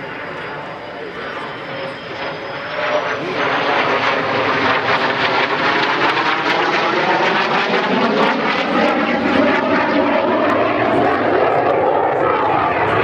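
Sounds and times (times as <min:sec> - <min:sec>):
jet flying overhead: 0:00.0 - 0:13.0.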